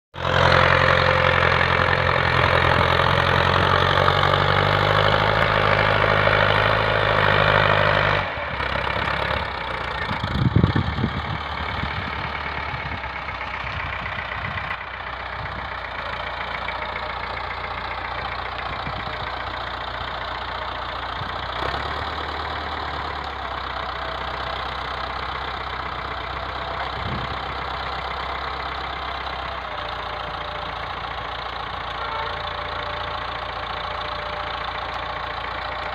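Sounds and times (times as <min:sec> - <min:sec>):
tractor diesel engine running: 0:00.1 - 0:35.9.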